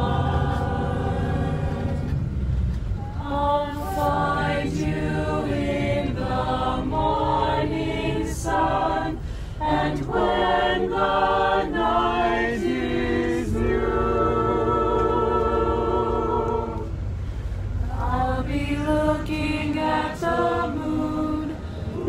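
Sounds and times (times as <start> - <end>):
choir singing unaccompanied: 0.0 - 17.2, 17.8 - 22.0
bus engine rumble: 0.0 - 22.0.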